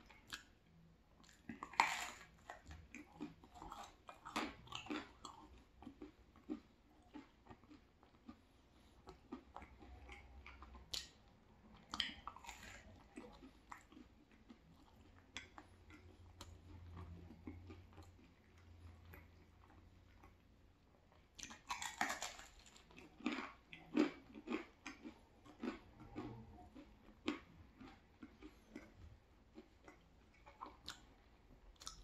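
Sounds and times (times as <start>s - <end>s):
chewing crispy pizza: 0.0s - 32.0s.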